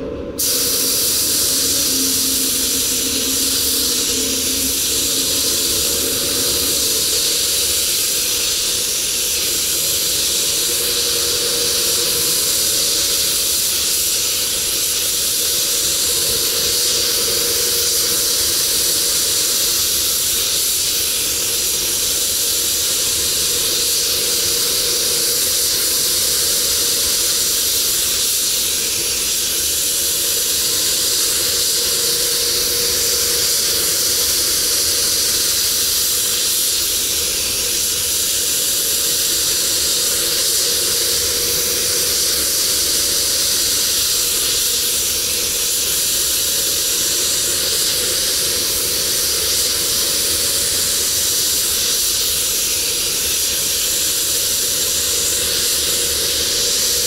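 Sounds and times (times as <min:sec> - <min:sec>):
ventilation hum: 0:00.0 - 0:57.0
paint spray gun hissing: 0:00.4 - 0:57.0.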